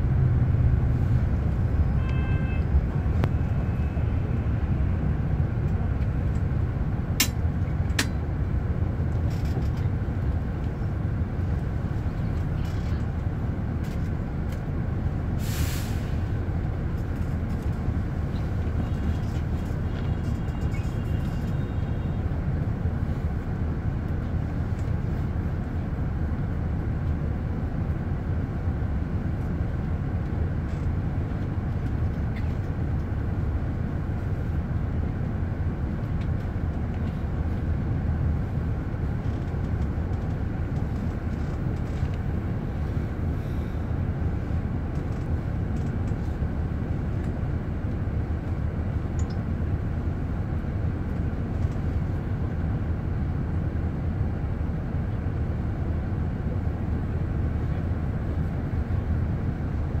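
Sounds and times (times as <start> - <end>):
bus engine idling: 0.0 - 60.0.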